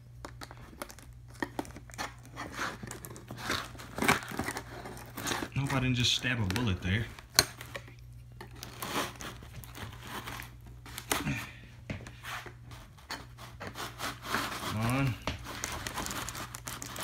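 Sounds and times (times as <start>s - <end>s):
plastic packaging crackling: 0.0s - 11.5s, 13.8s - 17.0s
knife scraping plastic: 0.4s - 11.4s, 12.1s - 17.0s.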